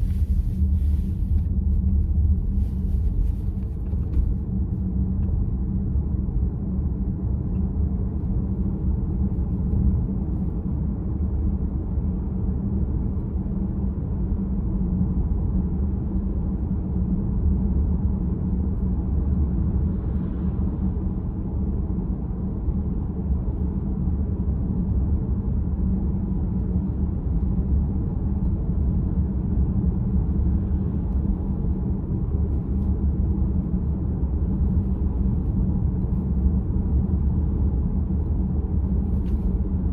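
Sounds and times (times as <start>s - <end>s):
road and tyre rumble inside car: 0.0s - 39.9s.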